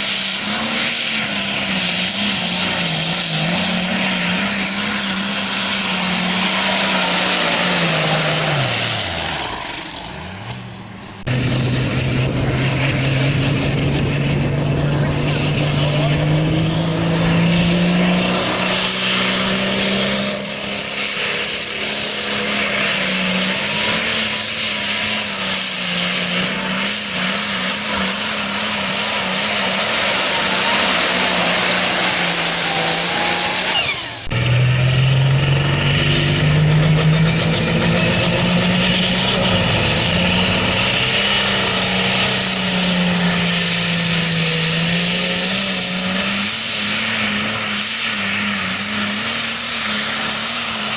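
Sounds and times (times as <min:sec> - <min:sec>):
diesel tractor engine running hard: 0:00.0 - 0:50.9
turbocharger whine: 0:00.0 - 0:50.9.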